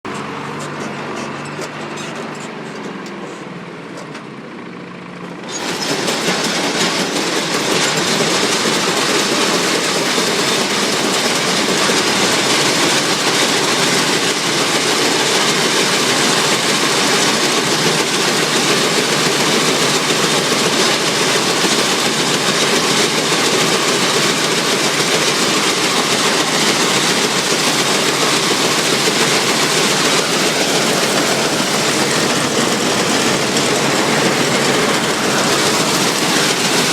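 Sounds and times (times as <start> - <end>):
combine harvester threshing machinery: 0.1 - 36.9.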